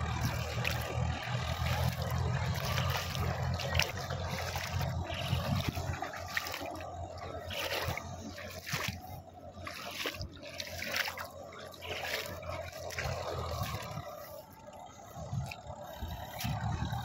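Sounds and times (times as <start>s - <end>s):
distant tractor engine running: 0.0s - 17.0s
rushing splashy water: 0.0s - 17.0s.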